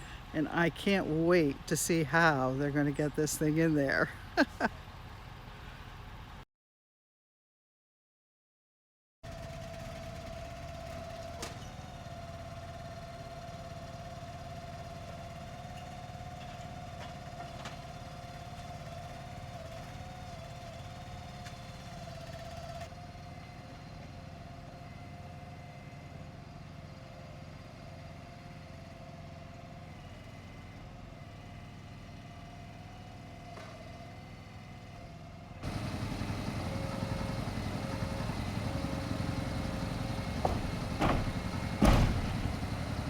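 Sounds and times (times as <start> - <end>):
machinery engine rumble: 0.0 - 6.4, 9.3 - 28.1, 30.4 - 43.0.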